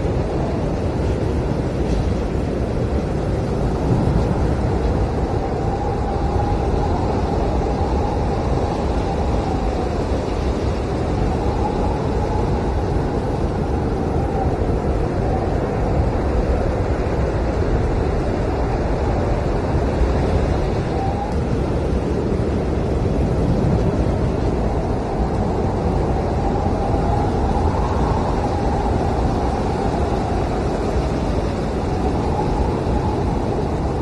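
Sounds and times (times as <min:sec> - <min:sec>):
blizzard wind blowing hard: 0:00.0 - 0:34.0
whistling howl of wind: 0:00.0 - 0:34.0.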